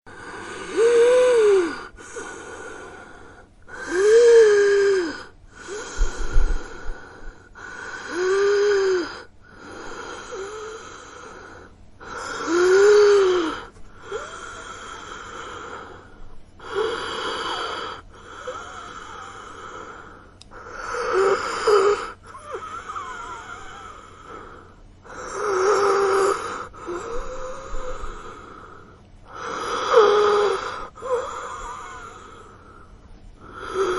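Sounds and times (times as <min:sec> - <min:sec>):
person wheezing breaths: 0:00.1 - 0:33.9.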